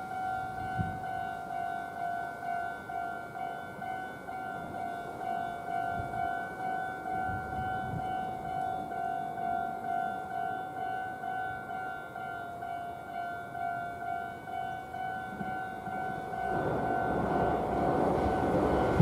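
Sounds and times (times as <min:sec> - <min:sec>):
level crossing warning bell: 0:00.0 - 0:19.0.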